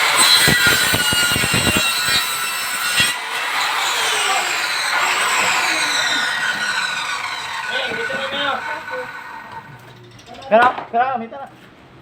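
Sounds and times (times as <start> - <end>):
power tool grinding: 0.0 - 10.3.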